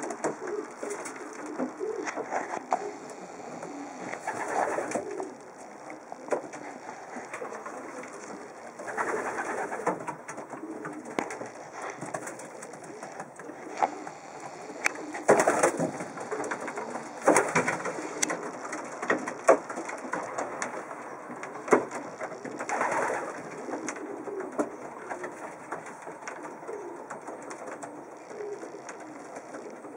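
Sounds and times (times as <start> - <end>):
pigeons cooing: 0.0 - 29.9
rustling bursts: 0.0 - 29.9
sharp clicks: 0.0 - 29.9.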